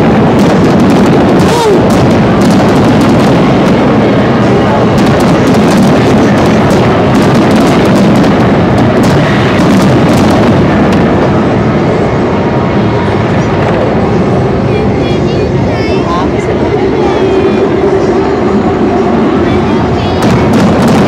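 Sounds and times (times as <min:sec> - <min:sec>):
fireworks booming and crackling: 0:00.0 - 0:14.7, 0:15.4 - 0:21.0.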